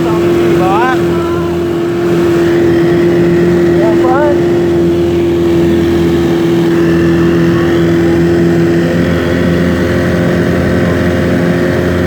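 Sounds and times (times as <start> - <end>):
motorboat engine running: 0.0 - 12.0
water noise: 0.0 - 12.0.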